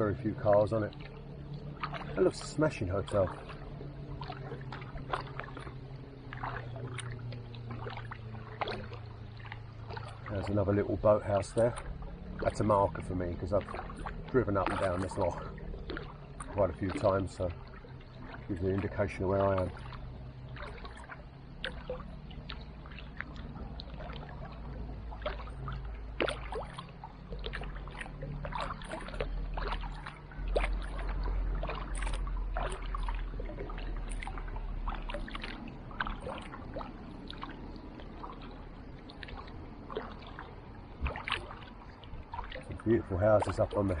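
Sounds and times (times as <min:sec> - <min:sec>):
paddle splashing and dripping water: 0:00.0 - 0:44.0.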